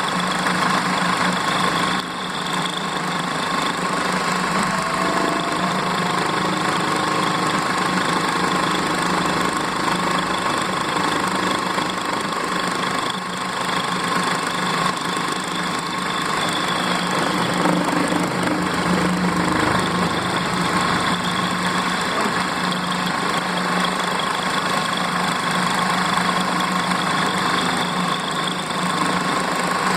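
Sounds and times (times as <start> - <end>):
milling machine whine and hum: 0.0 - 29.9.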